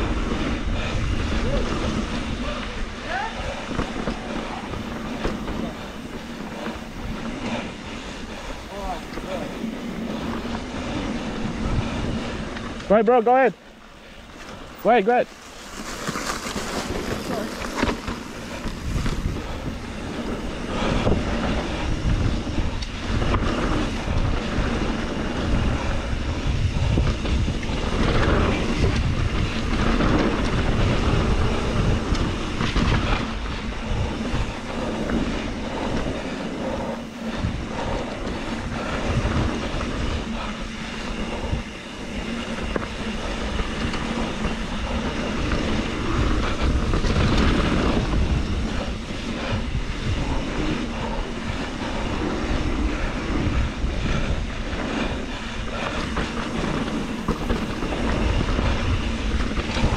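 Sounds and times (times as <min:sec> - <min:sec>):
bike rattling: 0:00.0 - 0:59.9
bike tyres rumbling on dirt: 0:00.0 - 0:59.9.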